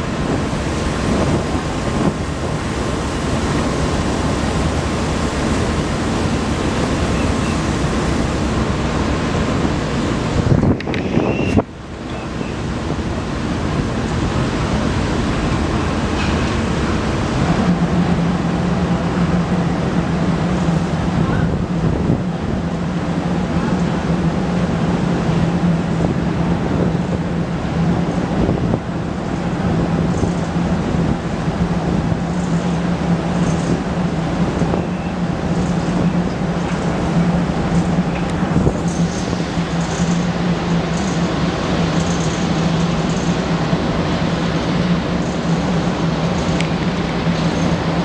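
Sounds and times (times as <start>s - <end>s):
drone propellers humming: 0.0s - 48.0s
rushing wind-like noise: 0.0s - 48.0s.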